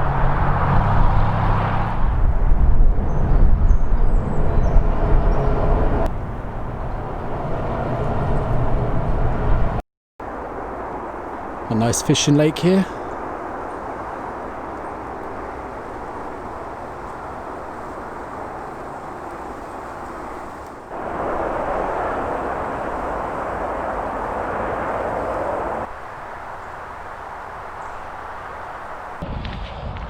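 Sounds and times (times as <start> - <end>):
road traffic roar: 0.0 - 29.2.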